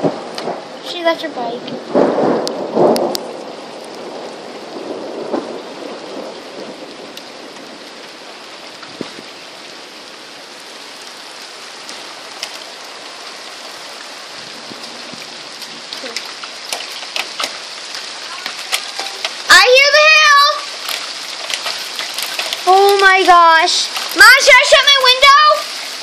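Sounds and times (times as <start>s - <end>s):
heavy rain falling: 0.0s - 26.0s
thunder rumble: 0.0s - 26.0s.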